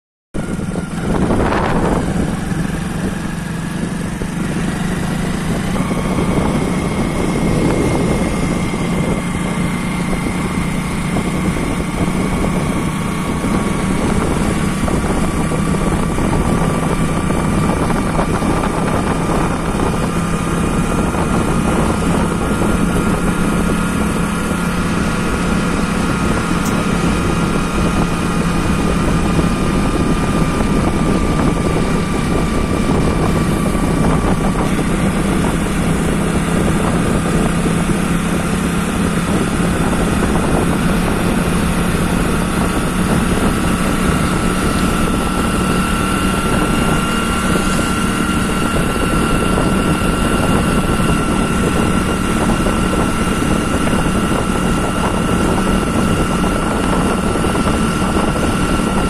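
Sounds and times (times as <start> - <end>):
motorcycle engine running: 0.4 - 59.0
wind and road noise: 0.4 - 59.0.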